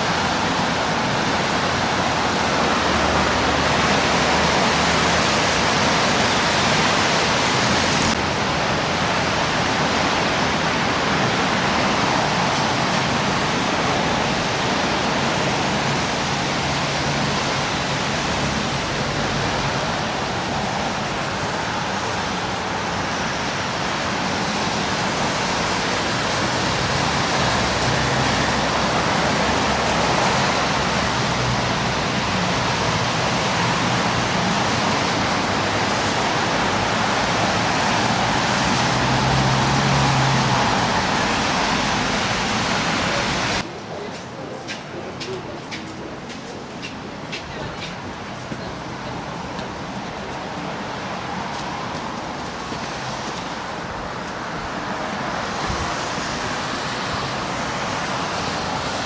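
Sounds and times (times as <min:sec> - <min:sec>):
street ambience: 0:00.0 - 0:59.0.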